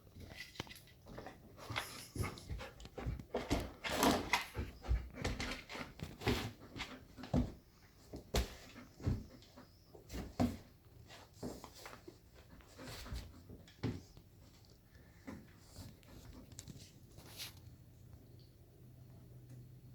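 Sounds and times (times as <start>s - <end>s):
dog and cat playing scuffling: 0.0s - 17.8s.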